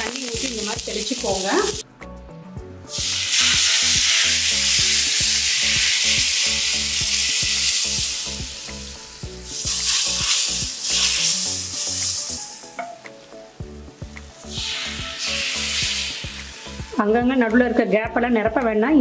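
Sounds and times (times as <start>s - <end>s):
batter sizzling on hot pan: 0.0s - 1.8s, 2.9s - 17.0s.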